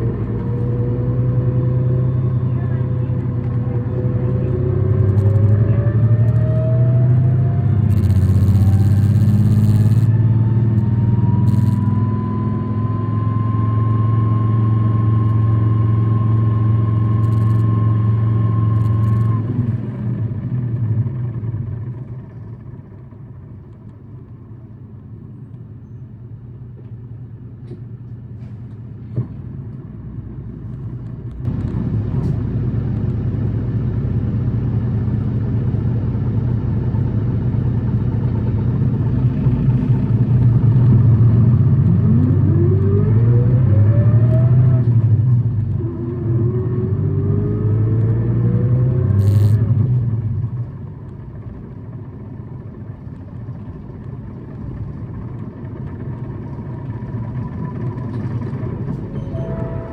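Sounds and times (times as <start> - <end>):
bus engine whining: 0.0 - 59.9.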